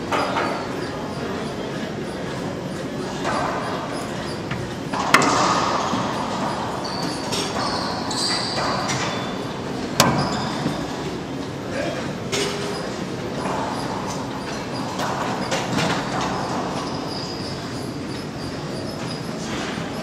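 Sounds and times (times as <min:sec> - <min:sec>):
sneaker squeaks on floor: 0:00.2 - 0:11.2, 0:12.4 - 0:20.0.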